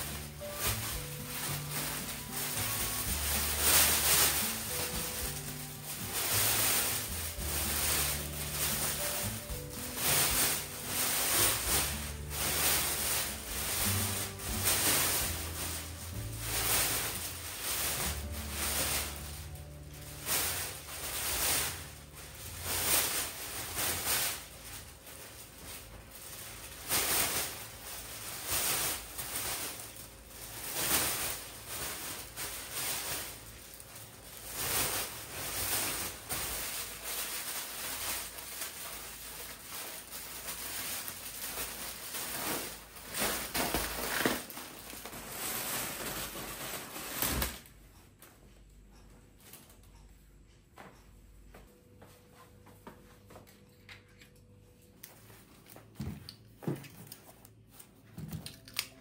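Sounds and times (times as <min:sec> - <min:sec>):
short rustling strokes: 0:00.0 - 0:47.5.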